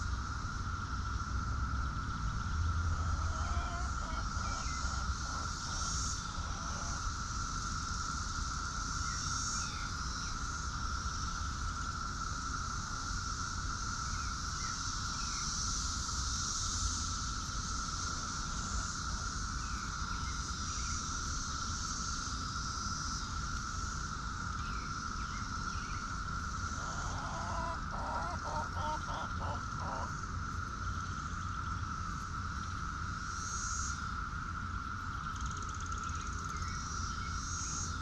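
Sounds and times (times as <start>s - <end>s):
insect chorus high drone: 0.0s - 38.0s.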